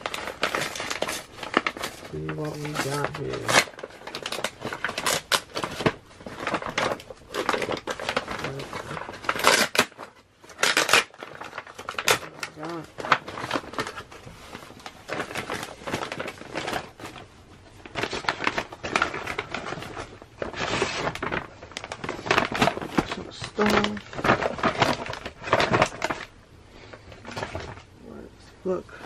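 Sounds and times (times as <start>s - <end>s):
package wrapping crinkling: 0.0s - 27.9s
paper envelopes handled: 0.0s - 27.9s.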